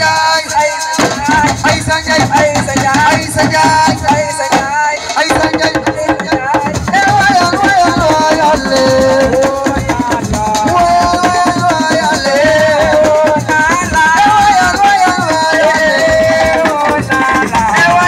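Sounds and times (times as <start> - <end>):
hand drumming and percussion: 0.0 - 18.0.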